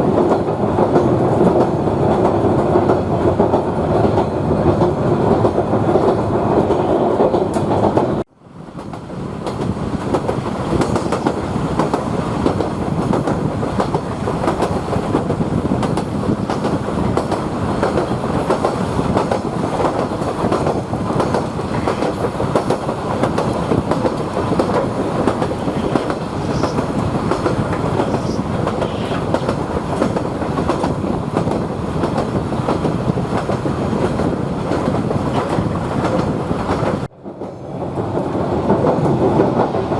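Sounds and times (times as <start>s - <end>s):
rail motor running along track: 0.0s - 39.9s.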